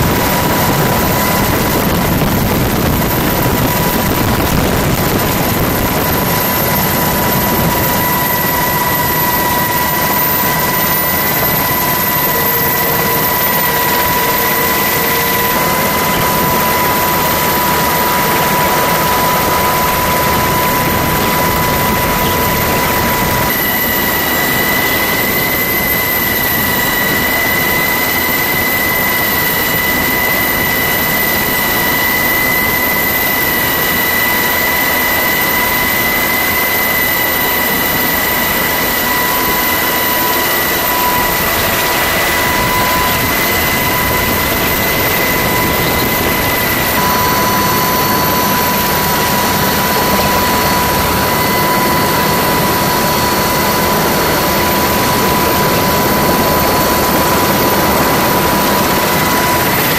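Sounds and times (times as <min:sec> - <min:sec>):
faint higher whine: 0:00.0 - 0:59.9
helicopter rotor and turbine roar: 0:00.0 - 0:59.9
high whine: 0:00.0 - 0:59.9.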